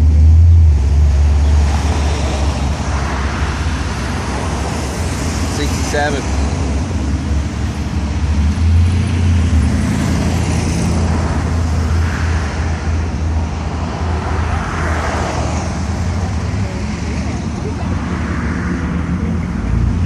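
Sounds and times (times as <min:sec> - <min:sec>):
cars passing with low rumble: 0:00.0 - 0:20.0.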